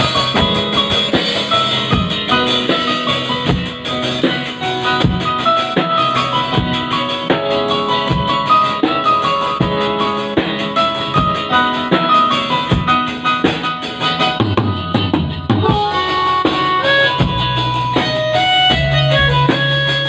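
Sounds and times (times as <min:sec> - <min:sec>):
instrumental music with drum beat: 0:00.0 - 0:20.0.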